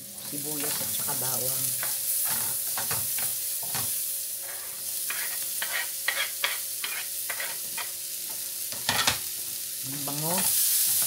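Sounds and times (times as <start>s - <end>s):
mushrooms sizzling in a frying pan: 0.0s - 11.0s.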